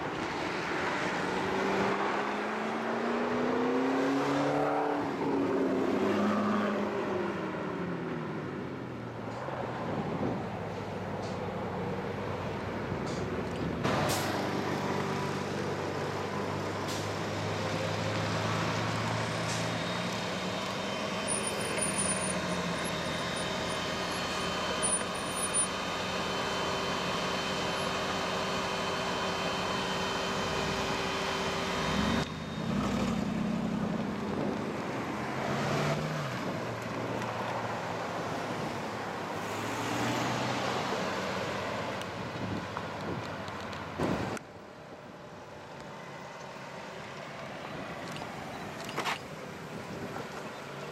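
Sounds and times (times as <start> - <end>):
road and traffic noise: 0.0 - 50.9.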